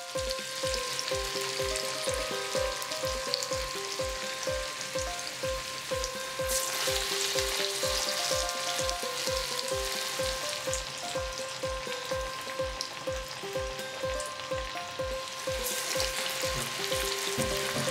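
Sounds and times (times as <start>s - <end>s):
background music with steady beat: 0.0s - 17.9s
food deep-frying in oil: 0.0s - 17.9s.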